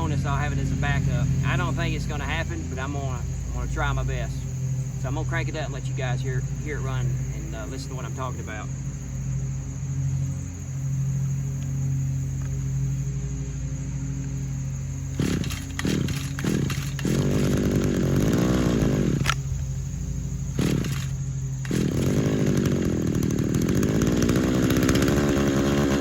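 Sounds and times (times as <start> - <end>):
two-stroke engine revving: 0.0 - 26.0.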